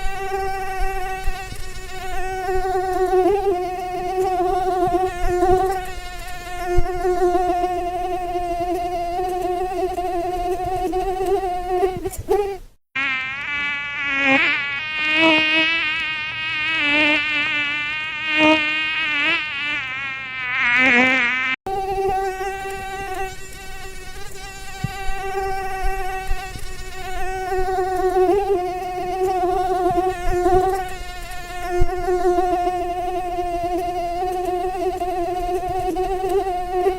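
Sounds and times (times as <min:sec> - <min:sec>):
mosquito whining in flight: 0:00.0 - 0:36.9.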